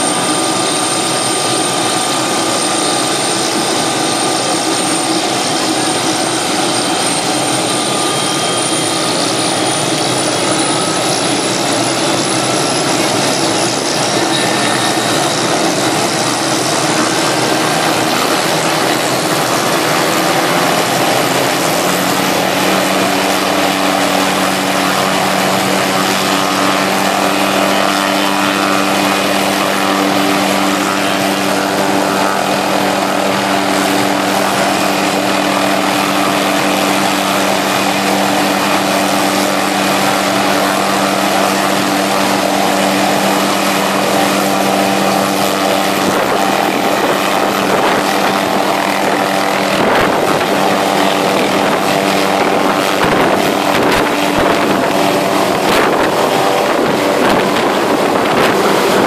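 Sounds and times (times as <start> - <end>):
helicopter engine and rotor hum: 0.0 - 59.0.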